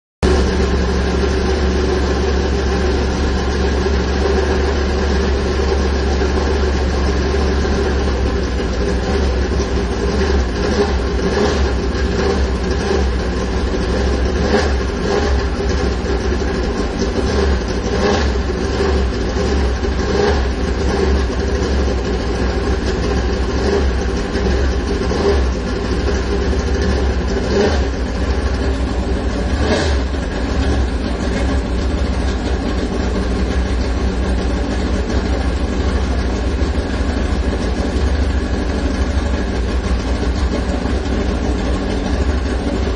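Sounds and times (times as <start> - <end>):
car engine rumbling: 0.2 - 42.9.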